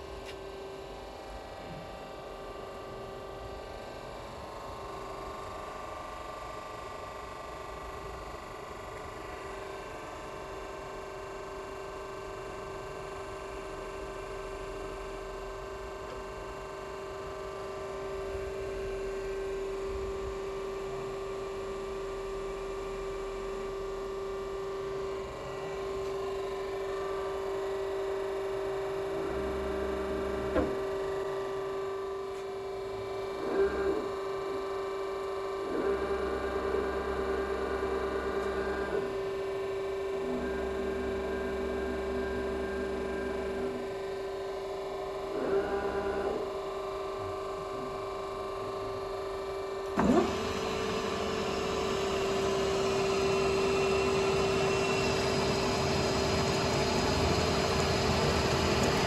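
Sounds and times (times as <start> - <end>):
grinding machine humming whine: 0.0 - 59.0.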